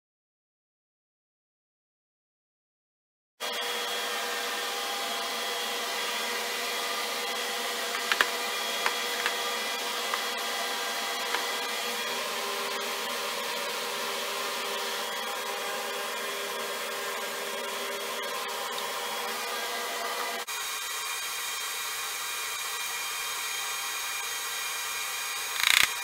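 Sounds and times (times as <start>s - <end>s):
power tool motor whirring: 3.4s - 26.0s.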